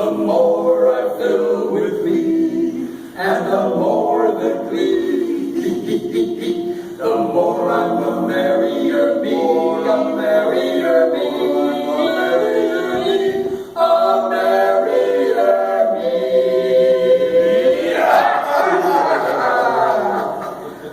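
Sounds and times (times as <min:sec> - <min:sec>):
chorus singing a cappella: 0:00.0 - 0:20.9.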